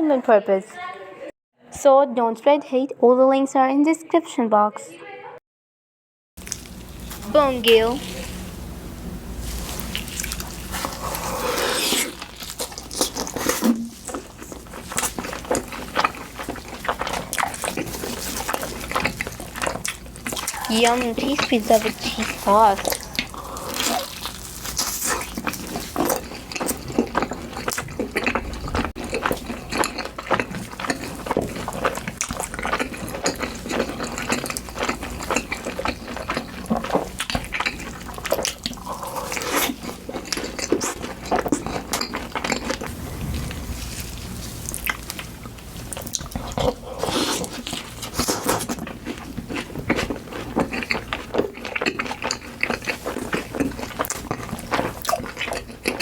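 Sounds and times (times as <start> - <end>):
food chewing: 9.4 - 56.0.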